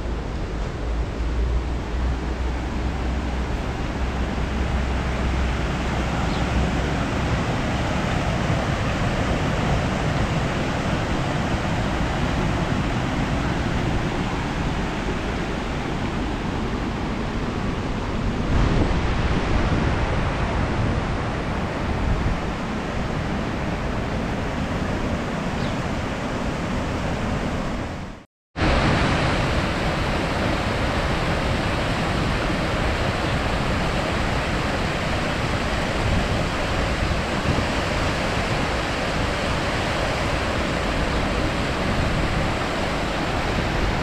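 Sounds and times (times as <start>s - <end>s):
river water rushing over rapids: 0.0s - 44.0s.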